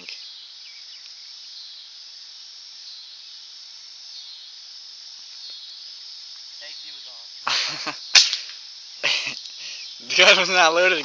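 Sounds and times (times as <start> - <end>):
high-pitched background hiss: 0.0 - 11.0.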